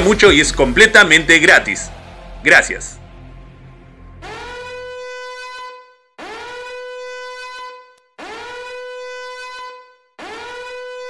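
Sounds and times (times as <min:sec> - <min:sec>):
electronic warning alarm blasts: 0:00.9 - 0:11.0.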